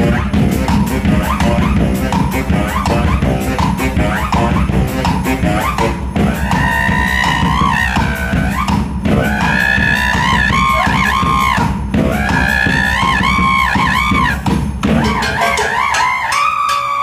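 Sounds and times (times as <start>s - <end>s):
heavy drum beat: 0.0s - 16.3s
baritone saxophone bending tones: 0.0s - 17.0s.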